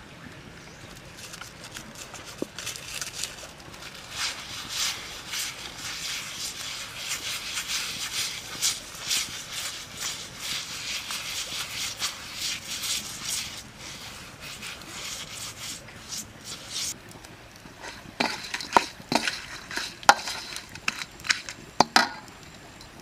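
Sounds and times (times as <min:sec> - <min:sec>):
brush scrubbing wet stone: 0:01.0 - 0:22.2.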